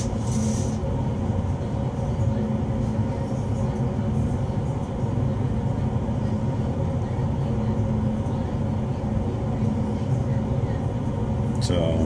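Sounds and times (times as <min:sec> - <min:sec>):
fume hood exhaust fan drone: 0:00.0 - 0:12.0.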